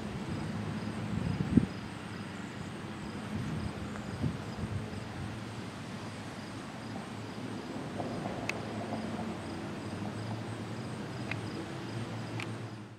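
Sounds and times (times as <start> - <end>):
distant traffic hum: 0.0 - 12.9
insects chirping: 0.0 - 12.9.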